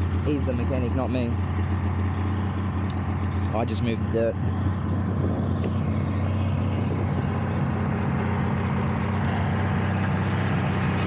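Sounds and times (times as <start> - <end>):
diesel engine low hum: 0.0 - 11.0.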